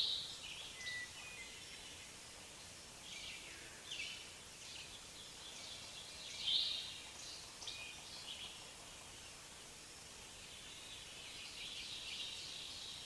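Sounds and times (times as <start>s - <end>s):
faint hiss: 0.0s - 13.0s
small birds chirping: 0.0s - 13.0s.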